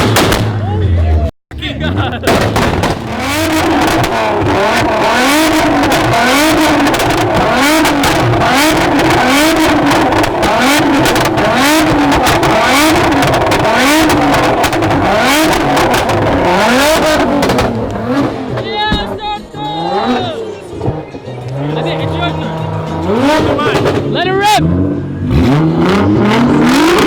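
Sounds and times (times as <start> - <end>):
car engine revving: 0.0 - 27.0
sharp exhaust crackles: 1.6 - 24.4.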